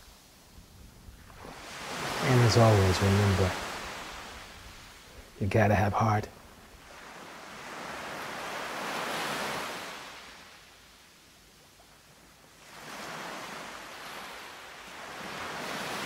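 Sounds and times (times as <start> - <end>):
ocean waves washing in: 0.0 - 5.4, 6.4 - 11.4, 12.0 - 16.0.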